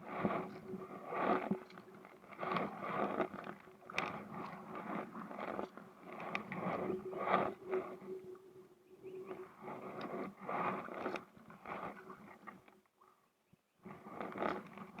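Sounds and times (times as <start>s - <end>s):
faint steady hum: 0.0s - 13.1s.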